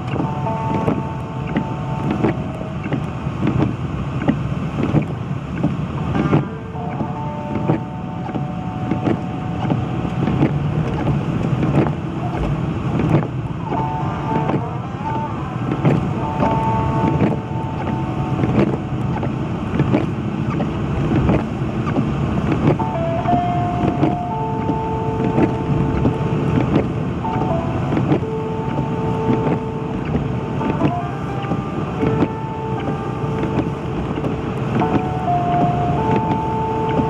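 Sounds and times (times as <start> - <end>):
engine and tyre rumble: 0.0 - 37.0
faint steady tones: 0.0 - 37.0.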